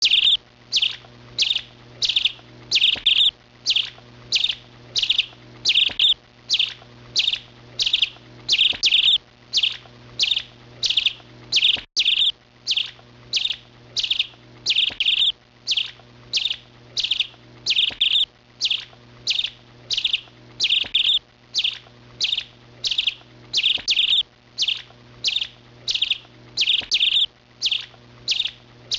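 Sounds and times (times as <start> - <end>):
small bird chirping: 0.0 - 28.9.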